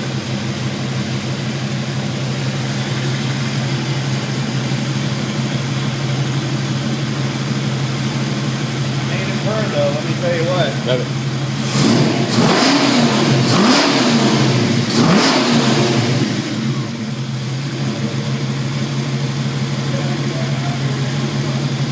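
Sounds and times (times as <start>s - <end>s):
car engine revving and idling: 0.0s - 21.9s.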